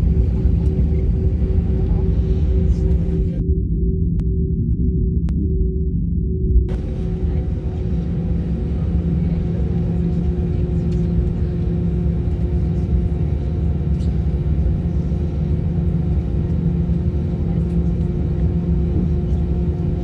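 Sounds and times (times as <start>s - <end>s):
jet engines rumbling in cabin: 0.0s - 5.3s, 6.6s - 20.0s.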